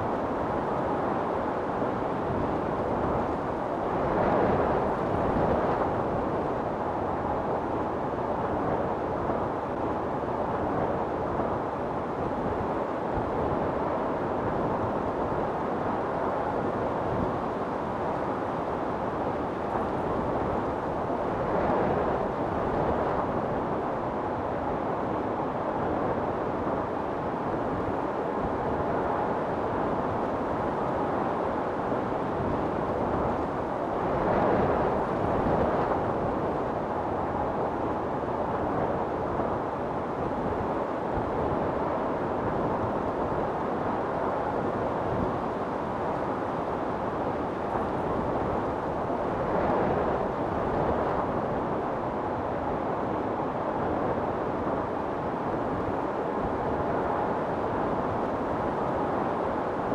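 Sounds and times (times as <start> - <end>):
wind storm blowing hard: 0.0 - 59.9.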